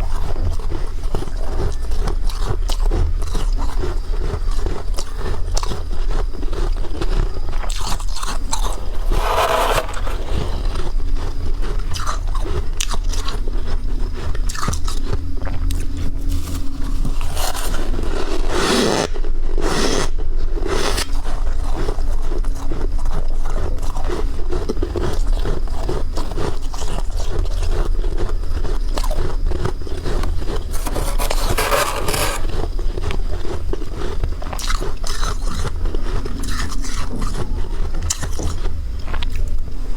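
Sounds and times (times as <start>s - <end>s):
chewing crunchy ice: 0.2s - 15.2s, 22.3s - 39.5s.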